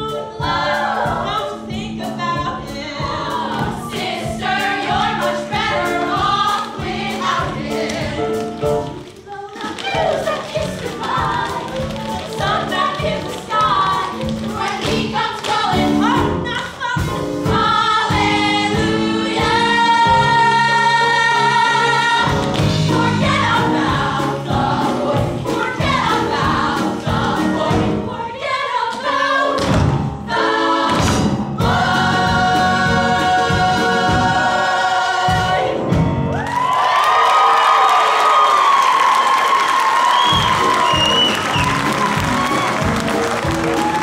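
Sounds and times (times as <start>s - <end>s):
drum kit: 0.0s - 9.2s, 9.9s - 28.2s, 29.6s - 36.7s, 40.1s - 44.0s
female ensemble singing show tune: 0.0s - 36.1s
piano: 0.0s - 44.0s.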